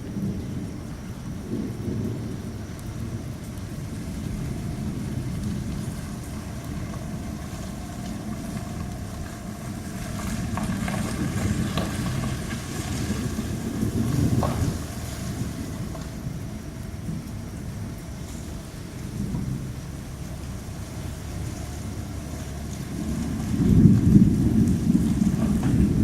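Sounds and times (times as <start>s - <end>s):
thunder rumbling: 0.0s - 26.0s
wind: 0.0s - 26.0s.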